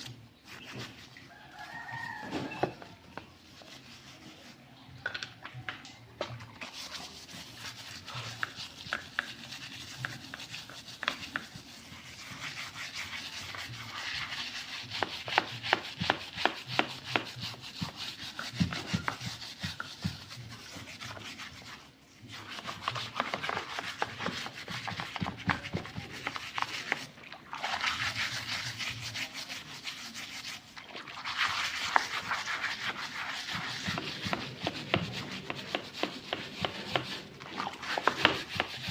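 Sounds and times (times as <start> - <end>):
scrubbing engine part by hand: 6.2 - 38.9.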